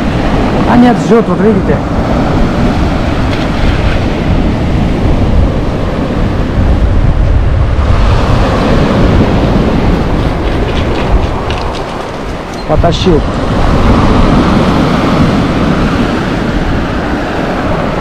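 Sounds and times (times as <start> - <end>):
surf breaking on shore: 0.0 - 18.0
wind buffeting microphone: 0.0 - 18.0.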